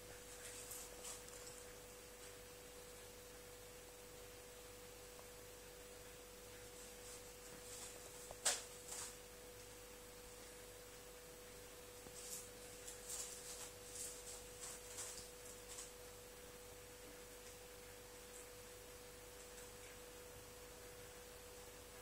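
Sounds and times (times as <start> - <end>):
faint high electrical whine: 0.0 - 22.0.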